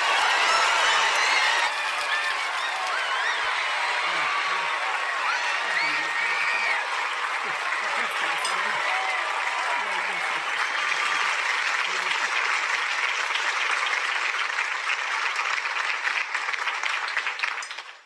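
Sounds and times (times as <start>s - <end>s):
crowd cheering: 0.0s - 18.0s
crowd clapping: 0.0s - 18.0s.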